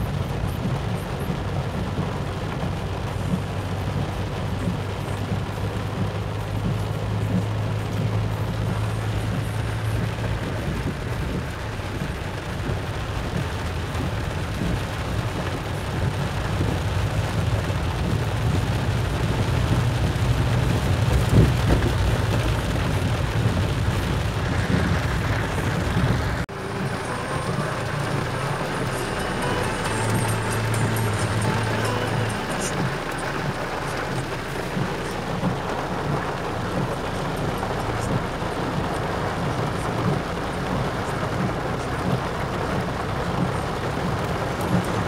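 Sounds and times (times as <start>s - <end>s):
car engine hum: 0.0s - 45.0s
tyre and rain noise: 0.0s - 45.0s.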